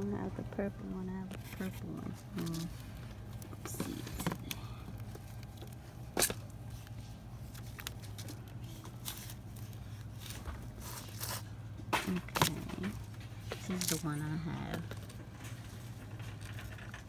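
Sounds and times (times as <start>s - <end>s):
store background hum: 0.0s - 17.0s
products clicking and rustling: 1.3s - 17.0s.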